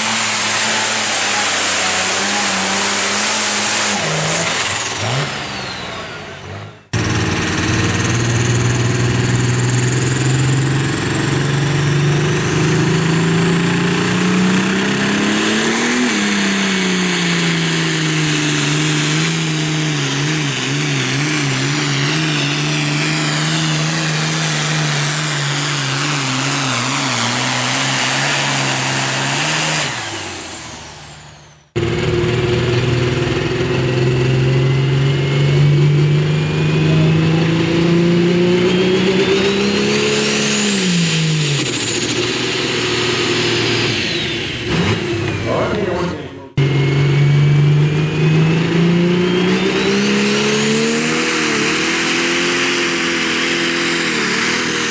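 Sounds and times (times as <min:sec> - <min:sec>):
turbocharger whistle: 0:00.0 - 0:46.0, 0:46.6 - 0:54.9
tractor diesel engine at full throttle: 0:00.0 - 0:54.9.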